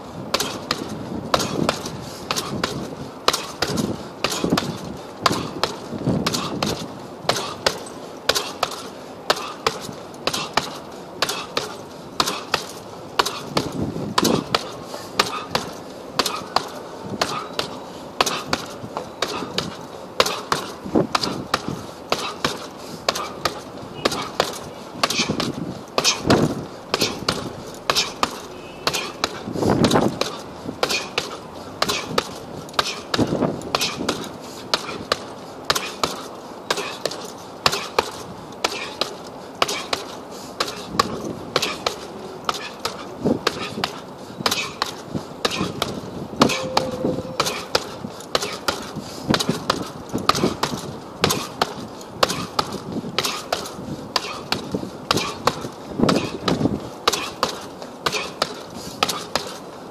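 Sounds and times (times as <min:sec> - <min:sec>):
punches hitting heavy bag: 0:00.3 - 0:59.6.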